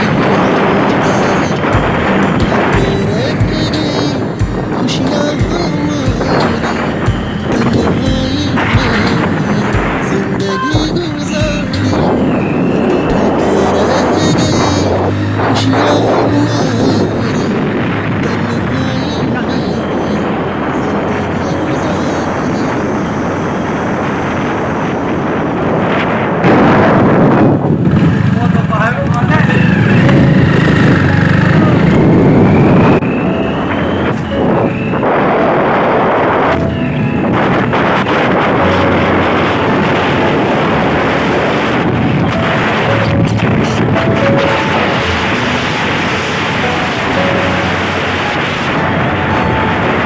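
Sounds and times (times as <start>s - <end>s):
vehicle running and road noise: 0.0s - 50.0s
wind rushing over microphone: 0.0s - 50.0s.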